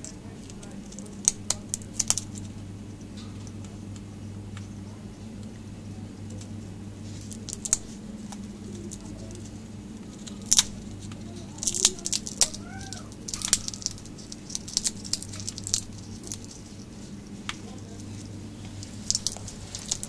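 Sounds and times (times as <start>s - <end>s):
parrot cracking nut shell: 0.0s - 4.8s, 7.2s - 20.0s.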